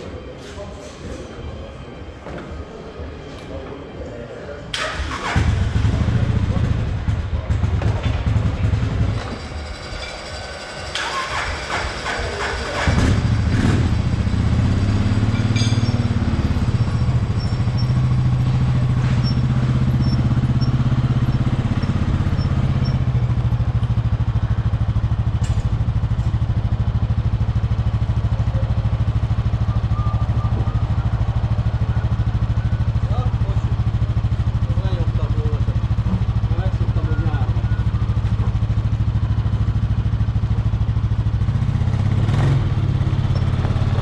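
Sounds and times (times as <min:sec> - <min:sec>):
jet ski engine idling: 0:04.7 - 0:41.6, 0:42.3 - 0:44.0.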